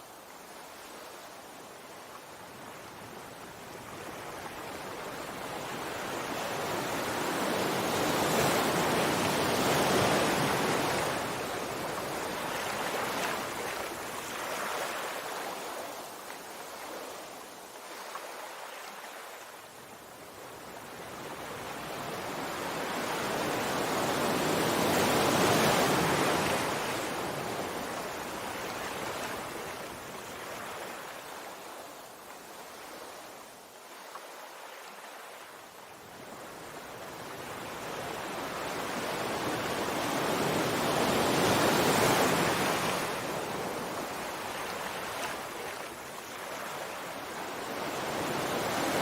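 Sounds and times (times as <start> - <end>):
waves breaking on shore: 0.0 - 49.0.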